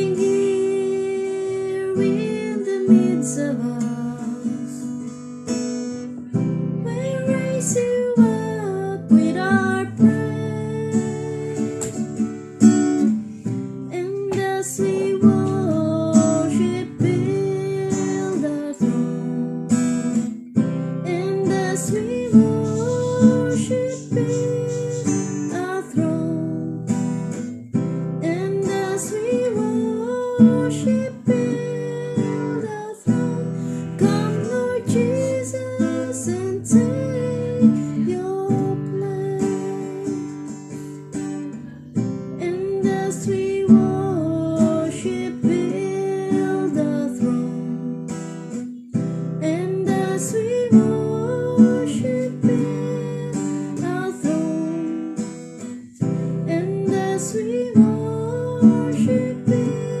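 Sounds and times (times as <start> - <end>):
acoustic guitar strumming: 0.0 - 60.0.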